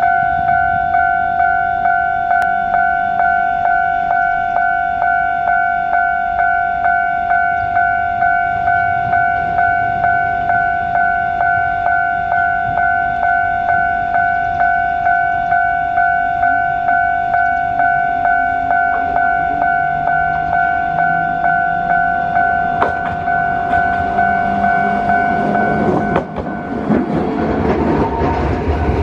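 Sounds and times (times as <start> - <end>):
level crossing bell dinging: 0.0 - 27.0.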